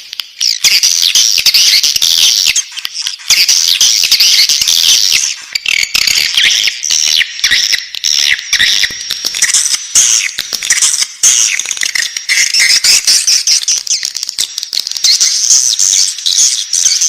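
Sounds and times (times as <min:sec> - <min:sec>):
chicks chirping: 0:00.1 - 0:17.0.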